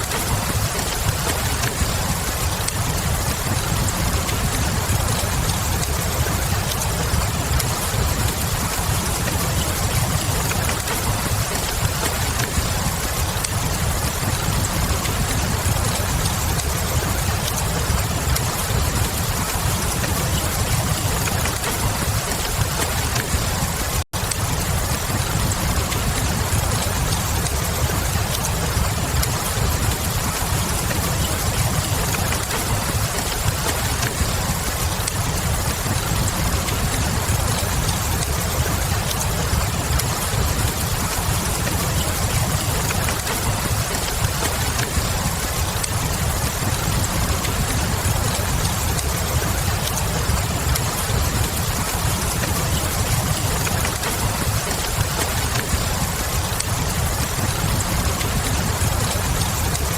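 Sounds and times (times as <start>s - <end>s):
rain hissing: 0.0s - 59.9s
wood fire crackling: 0.0s - 59.9s.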